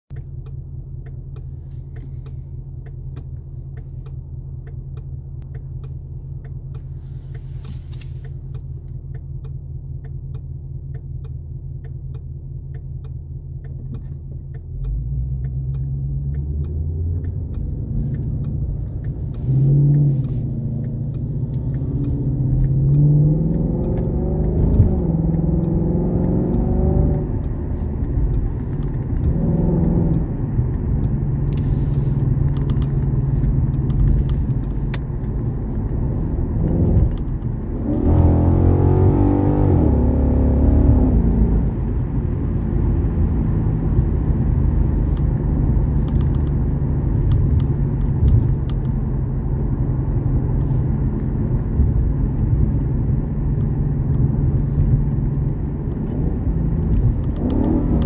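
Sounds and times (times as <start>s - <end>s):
car engine accelerating through gears: 0.1s - 58.0s.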